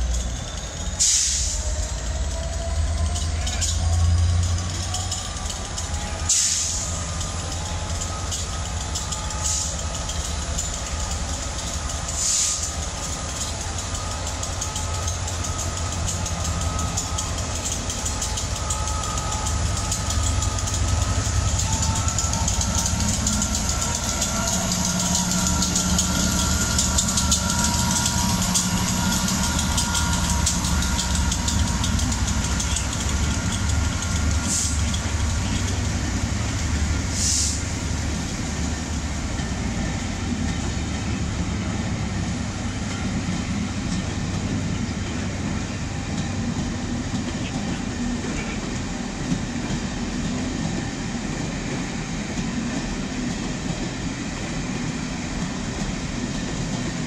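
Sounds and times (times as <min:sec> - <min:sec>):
diesel locomotive running: 0:00.0 - 0:57.0
train coaches rolling by: 0:00.0 - 0:57.0.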